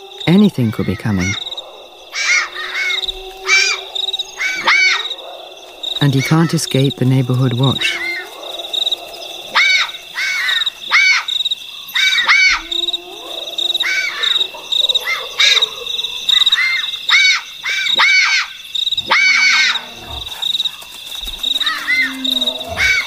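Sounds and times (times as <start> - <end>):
crickets trilling: 0.0 - 23.0
foxes calling: 0.0 - 23.0.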